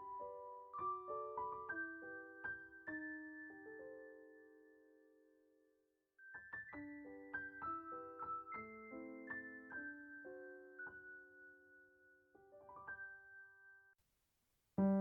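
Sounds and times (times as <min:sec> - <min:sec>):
solo piano music: 0:00.0 - 0:05.6, 0:06.2 - 0:14.0, 0:14.8 - 0:15.0.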